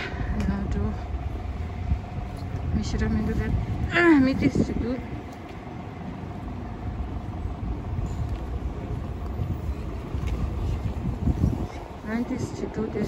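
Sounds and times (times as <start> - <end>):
busy street traffic rumble: 0.0 - 13.0.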